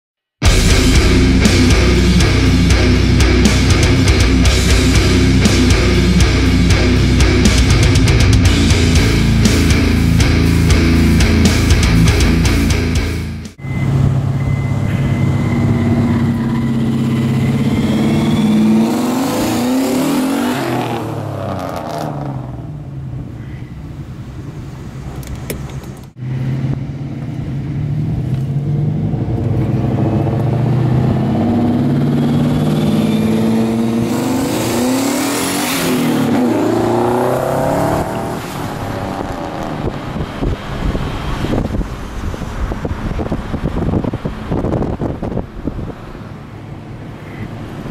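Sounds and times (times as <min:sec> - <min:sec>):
car engine revving under load: 0:00.4 - 0:47.9.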